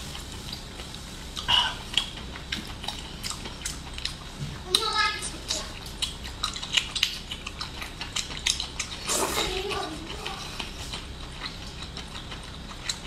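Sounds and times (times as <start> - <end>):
wet chewing and smacking: 0.1 - 13.0.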